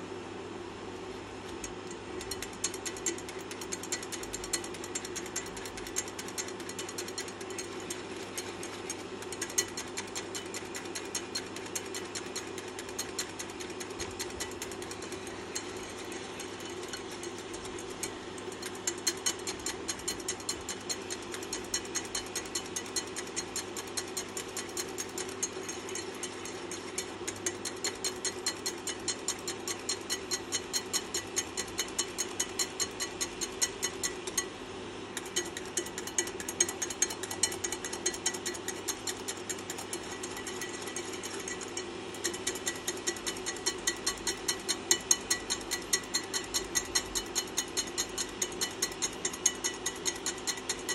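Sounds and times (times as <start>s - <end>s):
steady low hum: 0.0s - 50.9s
whisk ticking against pan: 1.4s - 50.9s.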